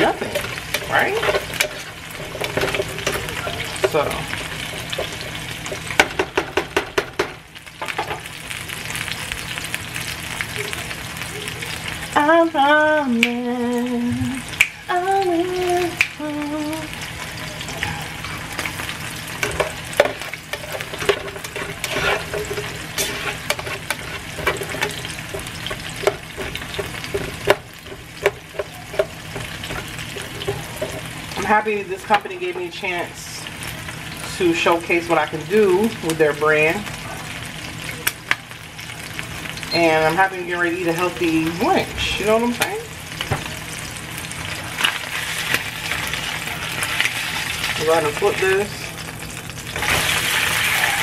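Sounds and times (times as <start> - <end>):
food sizzling with crackling pops: 0.0 - 51.0.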